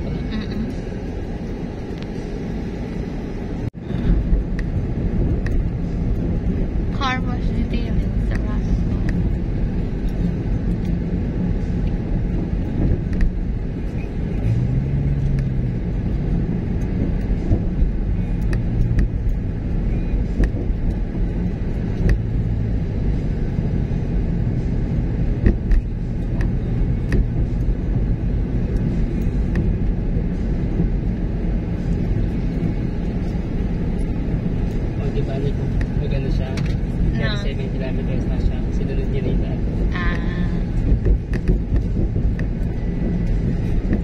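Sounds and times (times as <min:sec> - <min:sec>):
car engine and tyres rumbling: 0:00.0 - 0:44.0.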